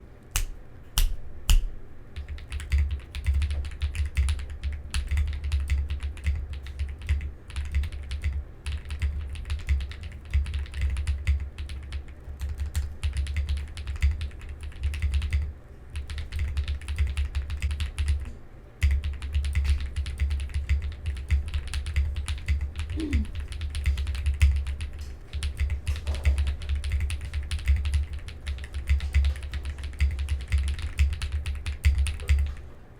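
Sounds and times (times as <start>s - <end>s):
typing on mechanical keyboard: 2.2s - 32.6s.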